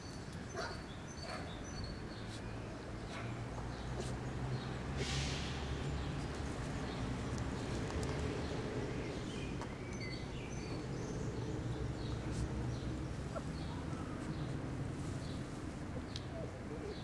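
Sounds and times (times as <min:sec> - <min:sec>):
low outdoor rumble: 0:02.1 - 0:17.0.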